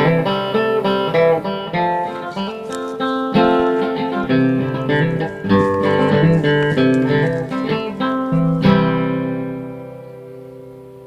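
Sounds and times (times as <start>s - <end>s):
acoustic guitar picking: 0.0s - 11.0s.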